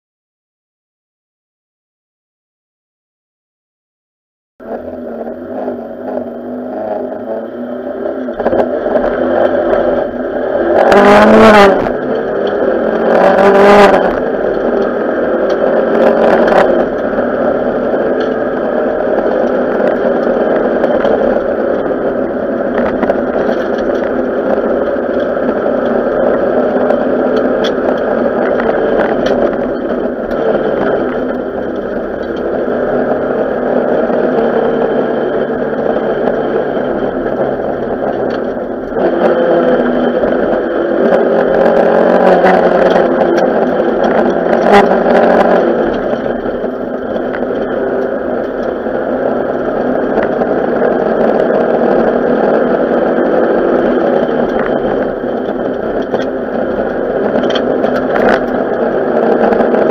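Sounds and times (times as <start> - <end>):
rally car engine at high revs: 4.6 - 59.9.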